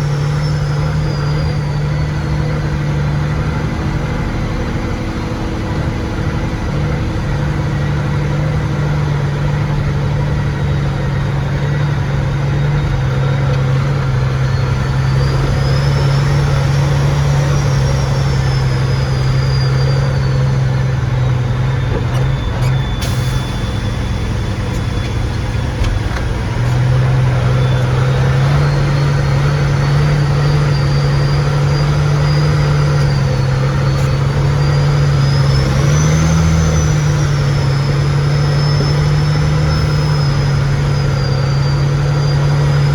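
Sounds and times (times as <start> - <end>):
high whine: 0.0 - 42.9
truck diesel engine under load: 0.0 - 42.9.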